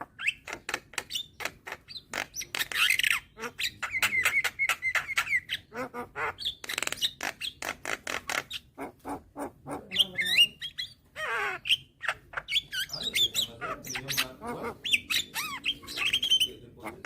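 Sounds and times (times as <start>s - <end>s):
myna calling: 0.0s - 17.0s.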